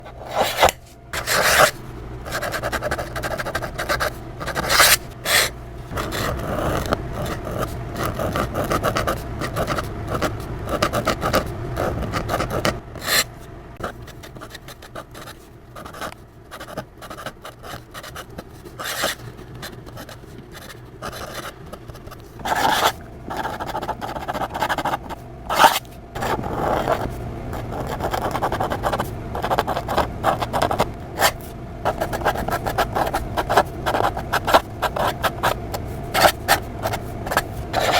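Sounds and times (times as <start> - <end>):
pen scratching on paper: 0.1 - 37.9.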